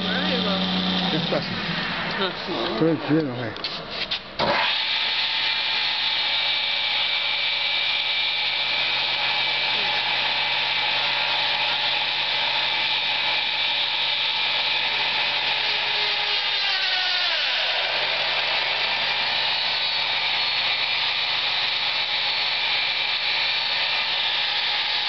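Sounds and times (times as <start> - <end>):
woodworking machine motor whirr: 0.0 - 3.4, 4.4 - 25.0
whining tone gliding downward: 4.5 - 25.0.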